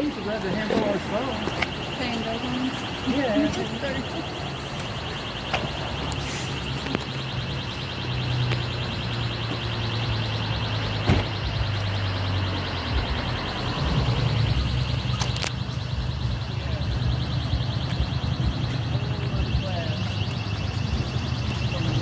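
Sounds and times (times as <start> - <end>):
electronic burglar alarm: 0.0 - 22.0.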